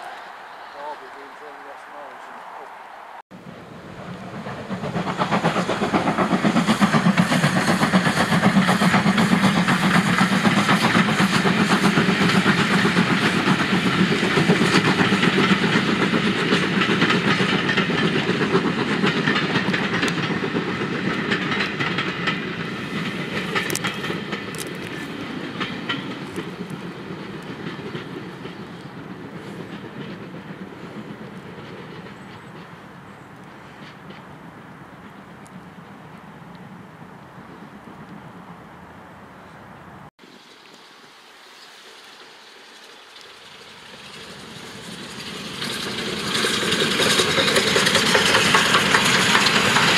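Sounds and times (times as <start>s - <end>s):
steam locomotive chuffing: 3.4s - 36.2s, 42.5s - 49.9s
wheels clicking over rail joints: 3.4s - 39.5s, 40.3s - 49.9s.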